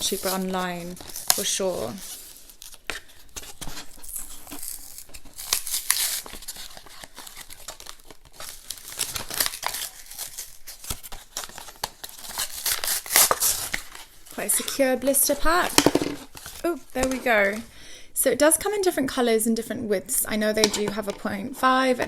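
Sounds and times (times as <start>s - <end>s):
blister pack crinkling and tearing: 0.0s - 17.8s.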